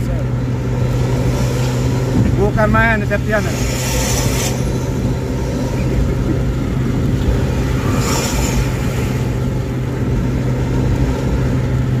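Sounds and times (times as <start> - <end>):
bus diesel engine drone: 0.0 - 12.0
road and wind noise: 0.0 - 12.0.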